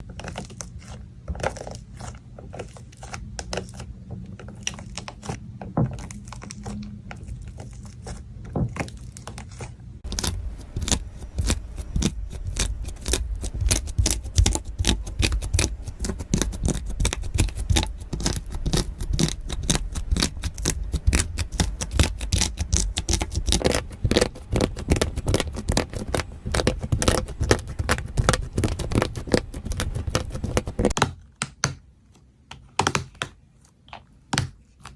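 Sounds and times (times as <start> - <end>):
rapid slime crackling: 0.0 - 34.9.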